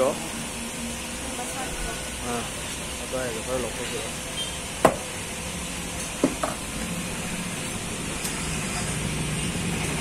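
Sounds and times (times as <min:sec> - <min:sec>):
vehicle engine humming: 0:00.6 - 0:10.0.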